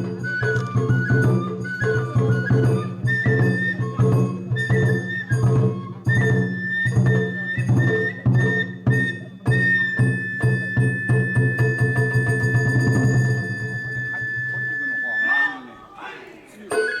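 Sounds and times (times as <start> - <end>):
bamboo flute piping: 0.0 - 16.0, 16.6 - 17.0.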